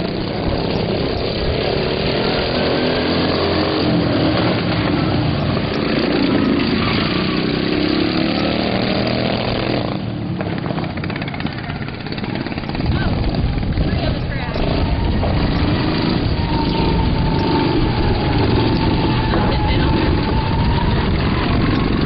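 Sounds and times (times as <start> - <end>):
small mower engines racing: 0.0 - 22.0.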